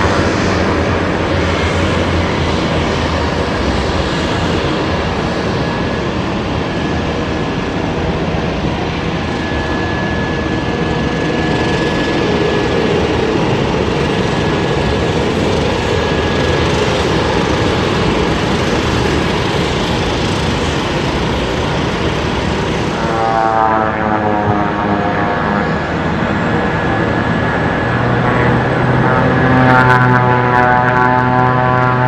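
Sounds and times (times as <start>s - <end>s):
high turbine whine: 0.0s - 32.0s
propeller and engine noise: 0.0s - 32.0s.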